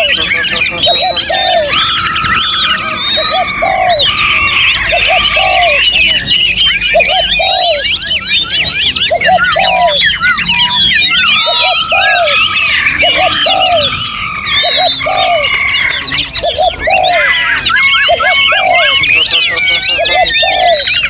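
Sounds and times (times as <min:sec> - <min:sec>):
low repeating bird call: 0:00.0 - 0:21.0
songbirds singing: 0:00.0 - 0:21.0.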